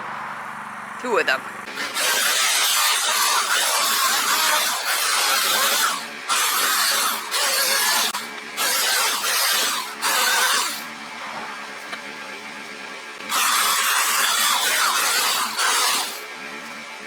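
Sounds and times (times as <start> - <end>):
electric chainsaw cutting wood: 1.6 - 11.9, 13.2 - 17.0.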